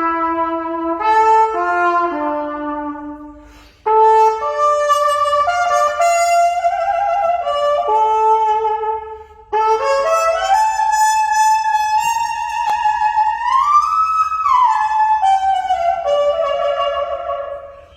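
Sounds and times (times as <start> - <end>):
trumpet playing slow melody: 0.0 - 17.9.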